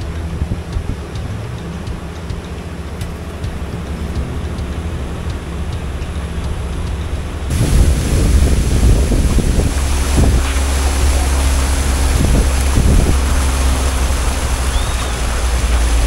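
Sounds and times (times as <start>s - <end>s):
boat engine rumbling: 0.0s - 16.0s
water splashing along hull: 0.0s - 16.0s
wind on microphone: 0.0s - 16.0s.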